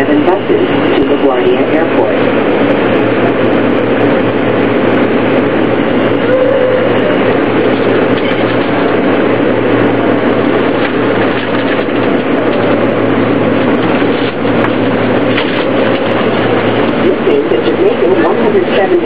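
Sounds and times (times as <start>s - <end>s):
subway train running on rails: 0.0s - 19.0s.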